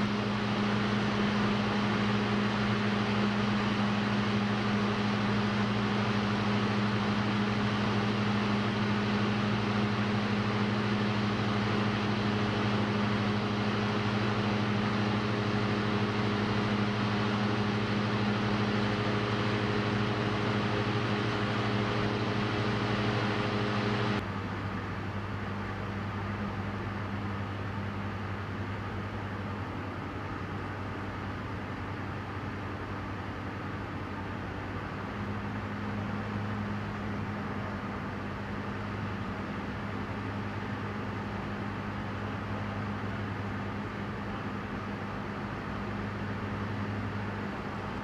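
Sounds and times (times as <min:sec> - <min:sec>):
aircraft engine and propeller droning: 0:00.0 - 0:48.0.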